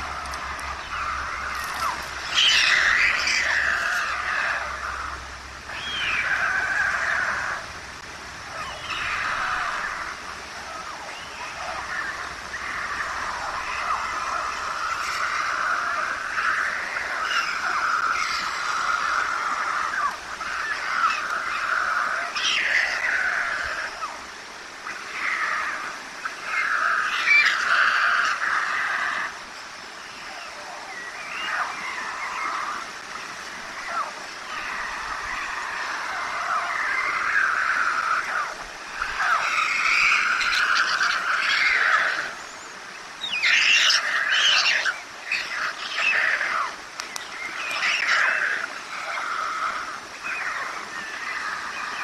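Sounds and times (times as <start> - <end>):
young storks begging calls: 0.0 - 52.0.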